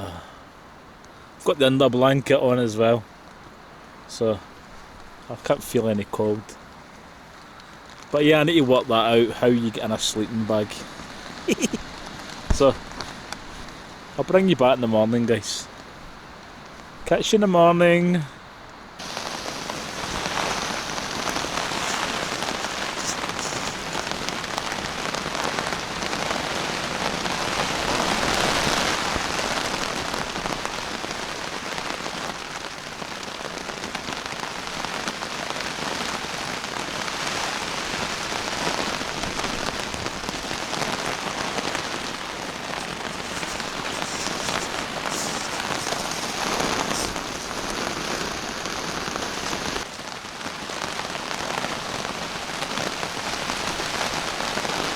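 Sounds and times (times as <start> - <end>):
heavy rain on a tarp: 0.0 - 54.9.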